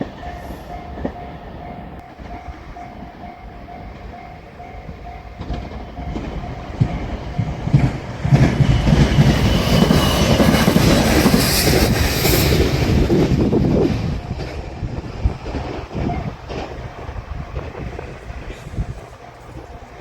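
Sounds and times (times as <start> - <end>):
train wheels knocking on rail joints: 0.0 - 20.0.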